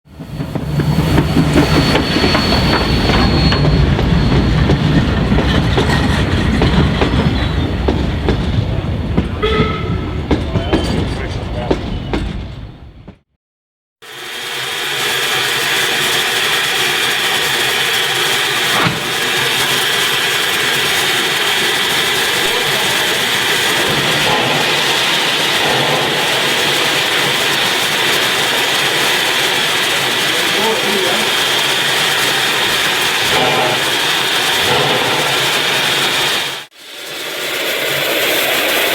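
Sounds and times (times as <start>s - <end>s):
high wheel squeal: 0.1s - 12.9s, 14.0s - 38.9s
train wheels clicking on rails: 0.1s - 13.2s, 14.1s - 38.9s
steam hissing from locomotive: 0.2s - 8.4s, 14.0s - 38.9s.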